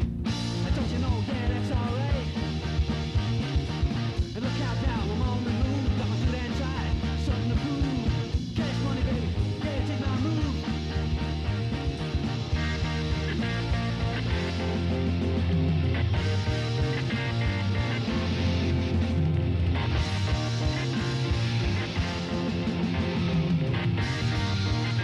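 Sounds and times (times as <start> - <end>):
rock music with guitars: 0.0 - 25.0
singing voice or lead guitar: 0.0 - 25.0.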